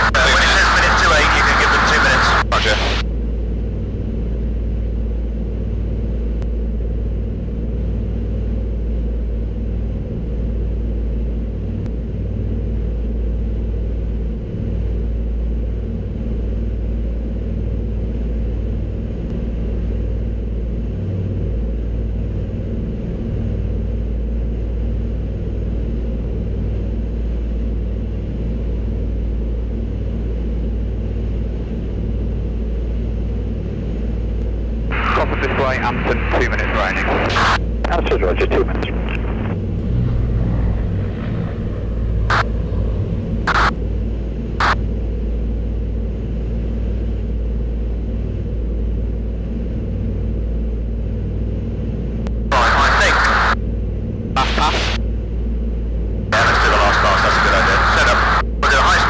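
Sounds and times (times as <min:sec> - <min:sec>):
piston aircraft engines droning: 0:00.0 - 0:59.0.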